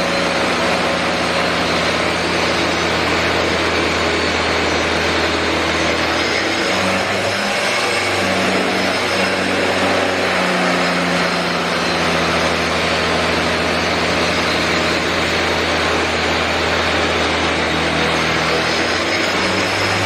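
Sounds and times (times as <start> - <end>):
angle grinder grinding concrete: 0.0 - 20.0.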